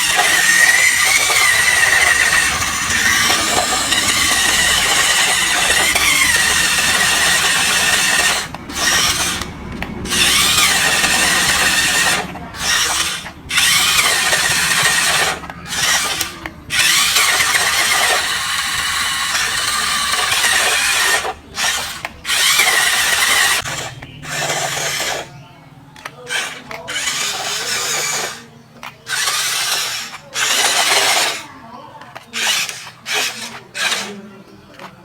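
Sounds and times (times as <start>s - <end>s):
toy vehicle motors whirring: 0.0s - 35.0s.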